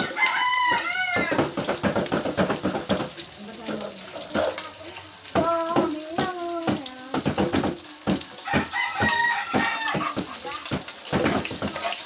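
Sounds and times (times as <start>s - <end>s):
noodles sizzling in a wok: 0.0s - 12.0s
metal utensil knocking on pan: 0.6s - 4.6s, 5.3s - 12.0s.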